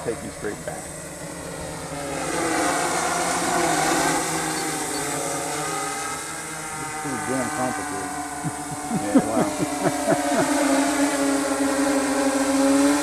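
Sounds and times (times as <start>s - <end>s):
drone motors and propellers humming: 0.0s - 13.0s.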